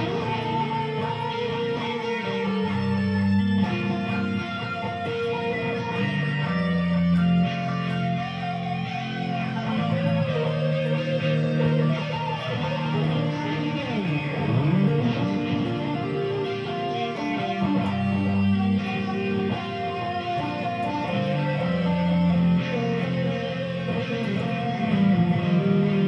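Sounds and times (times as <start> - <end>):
electric guitar jam: 0.0 - 26.0.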